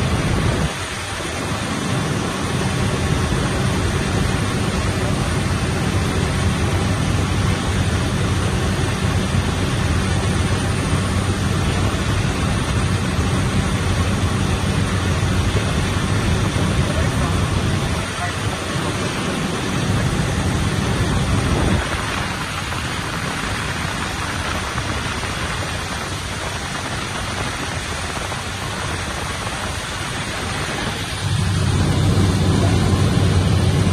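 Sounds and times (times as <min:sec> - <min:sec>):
aircraft engine drone: 0:00.0 - 0:33.9
rush of air: 0:00.0 - 0:33.9.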